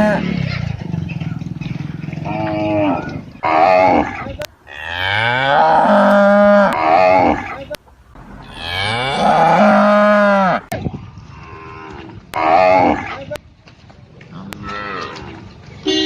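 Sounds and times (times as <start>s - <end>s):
cattle mooing: 0.0s - 0.6s, 2.1s - 13.3s, 14.3s - 15.4s.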